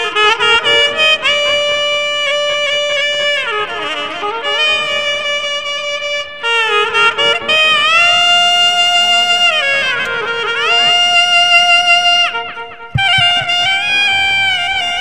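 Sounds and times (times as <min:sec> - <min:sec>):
devotional song instrumental: 0:00.0 - 0:15.0.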